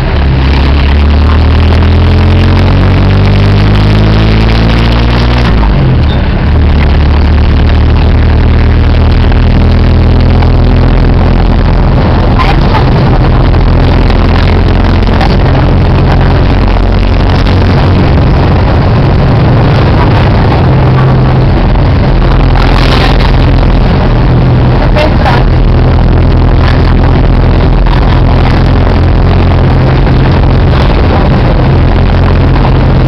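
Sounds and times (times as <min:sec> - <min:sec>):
car engine drone: 0:00.0 - 0:33.0
tyre and wind noise: 0:00.0 - 0:33.0.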